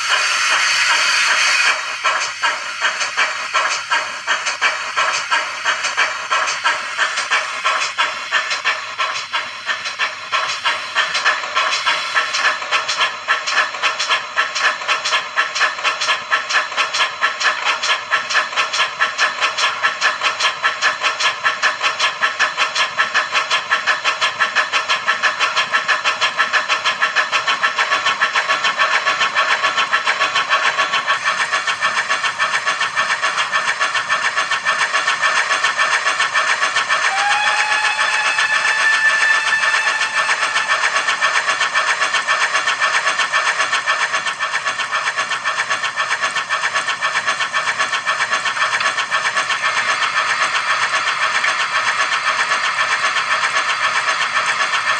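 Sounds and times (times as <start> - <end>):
steam exhaust chuffs: 0.0 - 54.9
steam hiss: 0.0 - 54.9.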